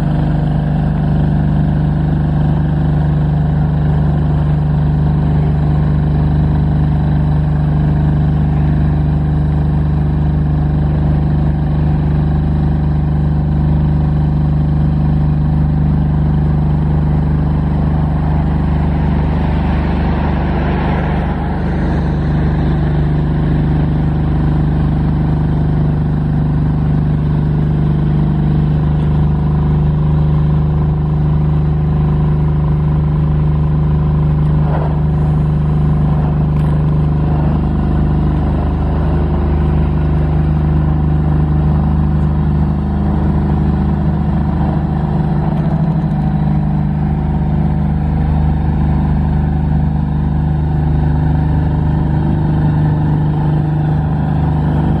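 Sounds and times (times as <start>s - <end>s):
diesel generator engine humming: 0.0s - 55.0s.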